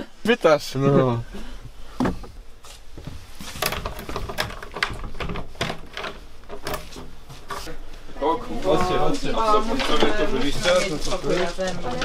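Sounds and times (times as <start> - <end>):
low room rumble: 0.0 - 12.0
footsteps indoors: 1.6 - 12.0.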